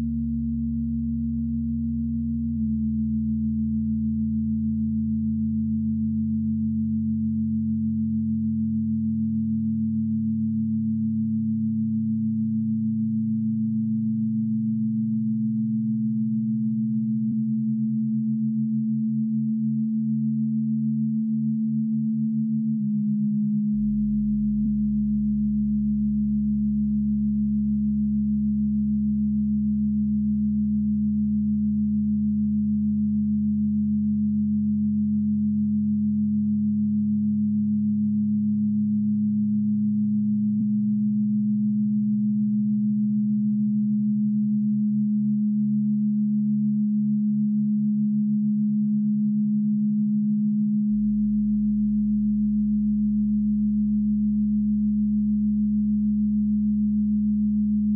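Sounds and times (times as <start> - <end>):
electronic drone of sine tones: 0.0 - 57.9.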